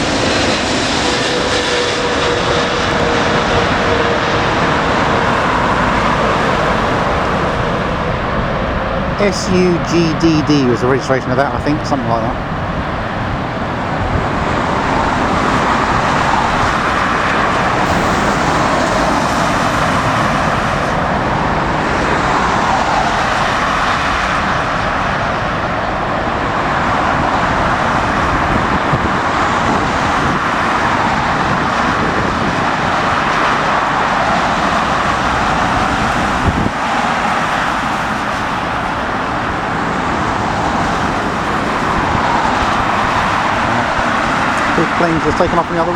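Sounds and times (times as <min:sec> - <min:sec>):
jet airliner roar: 0:00.0 - 0:45.9
wind buffeting microphone: 0:00.0 - 0:45.9.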